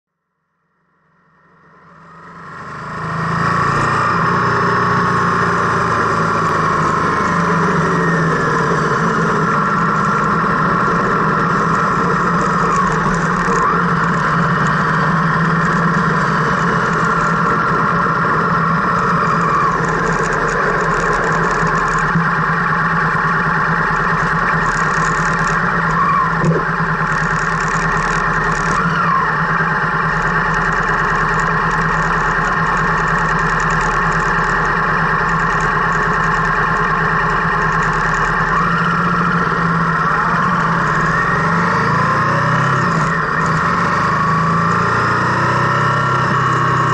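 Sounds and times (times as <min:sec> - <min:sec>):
car engine and tyre noise: 0:00.8 - 0:46.9.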